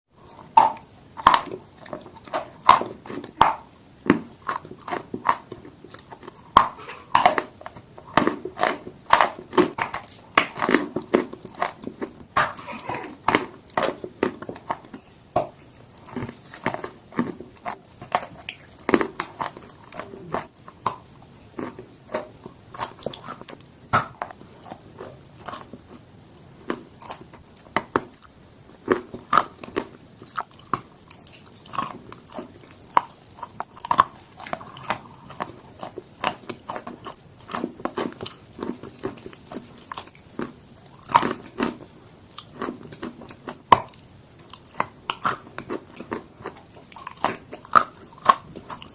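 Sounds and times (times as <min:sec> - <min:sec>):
chalk crunching as chewed: 0:00.2 - 0:48.9.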